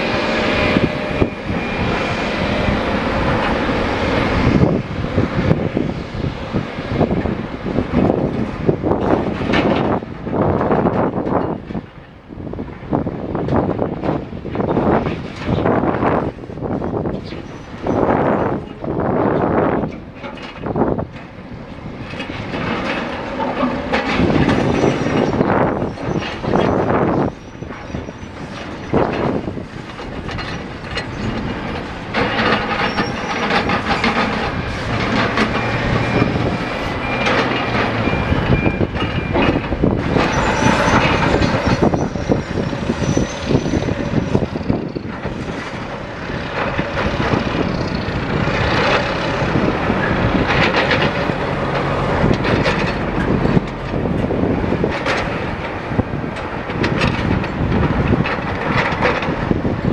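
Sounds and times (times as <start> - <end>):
heavy machinery engines running: 0.0 - 59.9.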